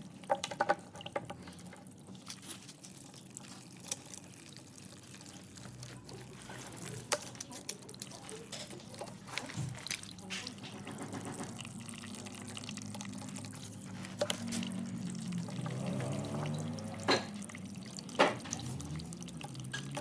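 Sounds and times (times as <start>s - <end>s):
small clicks and drips: 0.0s - 20.0s
water pouring and trickling: 0.0s - 20.0s.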